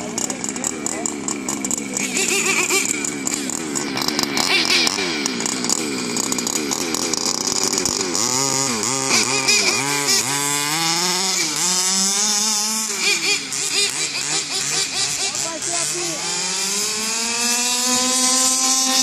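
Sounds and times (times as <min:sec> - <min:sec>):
engine rising whine: 0:00.0 - 0:19.0
small two-stroke engines revving: 0:00.0 - 0:19.0.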